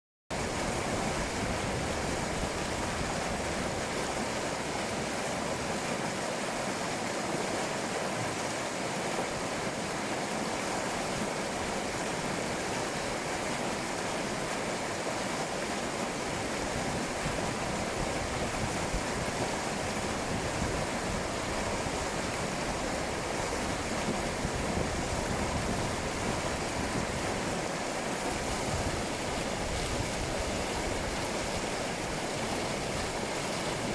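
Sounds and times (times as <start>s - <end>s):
river babbling over stones: 0.3s - 33.9s.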